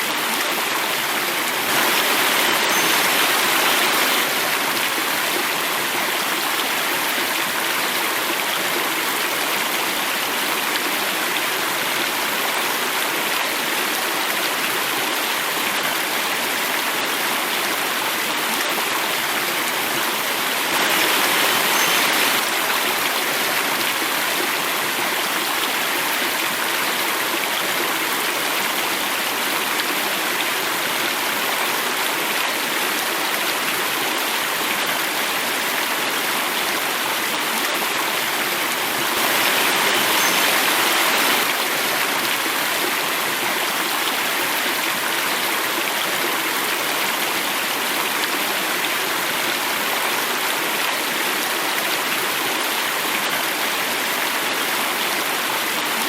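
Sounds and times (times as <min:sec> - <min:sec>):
stream water rushing and splashing: 0:00.0 - 0:56.0.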